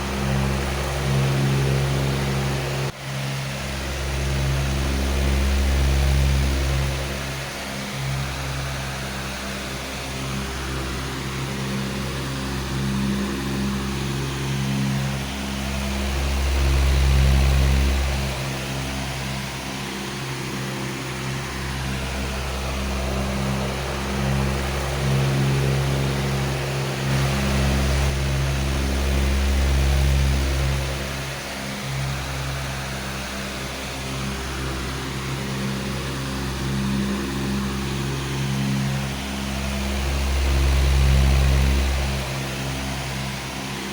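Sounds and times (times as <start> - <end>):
electric fan running: 0.0 - 43.9.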